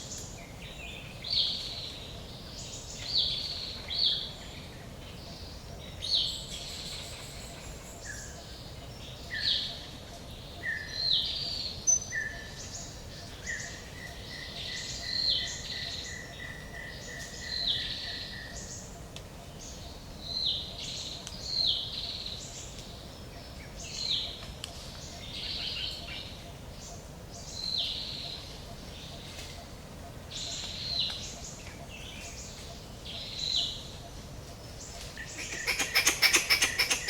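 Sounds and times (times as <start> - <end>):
faint steady hiss: 0.0 - 37.0
songbirds chirping: 0.0 - 37.0.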